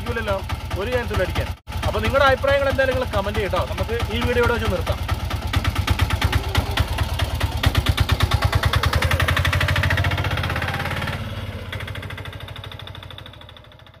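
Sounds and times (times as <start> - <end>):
small engine pulling away: 1.7 - 14.0.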